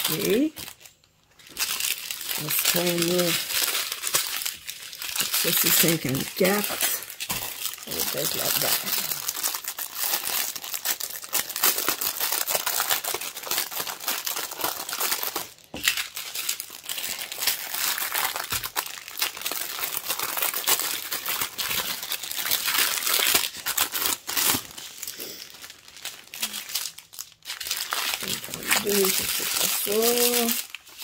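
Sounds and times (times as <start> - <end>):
plastic bags crinkling: 0.0 - 31.0.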